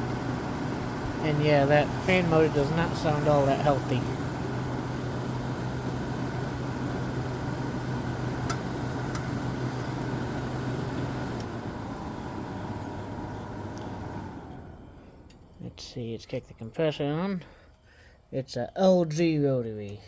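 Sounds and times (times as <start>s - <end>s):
air conditioner fan humming: 0.0s - 18.4s.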